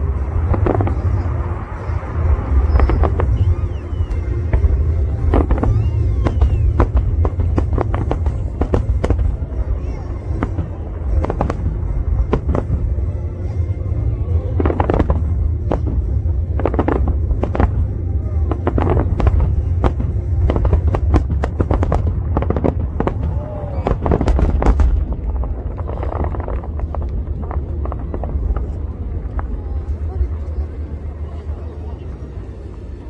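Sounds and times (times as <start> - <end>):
music playing: 0.0 - 29.2
firework bangs and crackling: 0.0 - 33.0
low rumble of explosions: 0.0 - 33.0.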